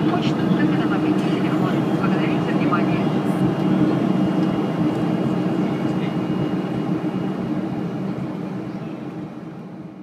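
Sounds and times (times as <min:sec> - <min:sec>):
jet engine rumble: 0:00.0 - 0:10.0.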